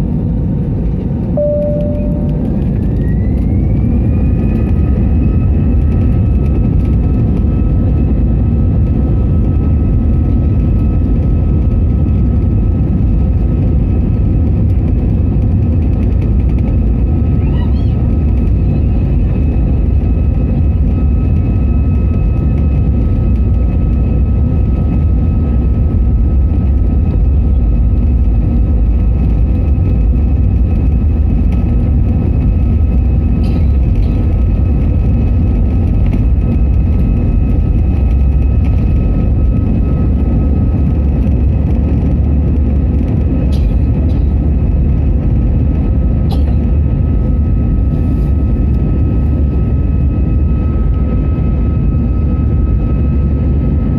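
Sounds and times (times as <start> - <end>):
airliner cabin engine roar: 0.0 - 53.9
steady whining tones: 0.8 - 53.9.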